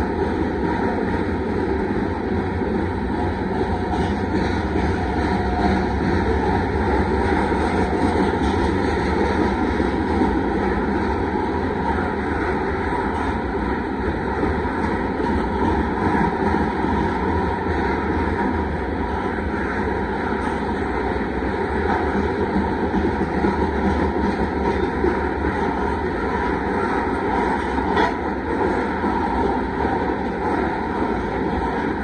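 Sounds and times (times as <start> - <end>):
steel wheels on rails: 0.0 - 32.0.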